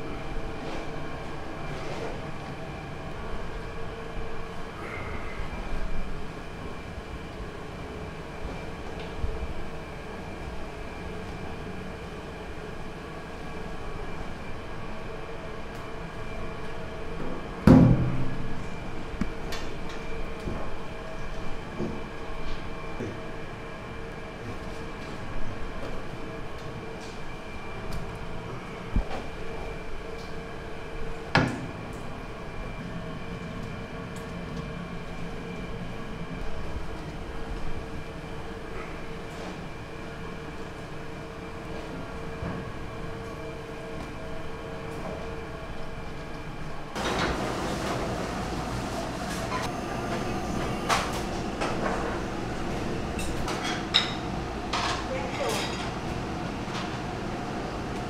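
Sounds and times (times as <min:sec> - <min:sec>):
factory machinery drone: 0:00.0 - 0:58.0
machine whine: 0:00.0 - 0:58.0.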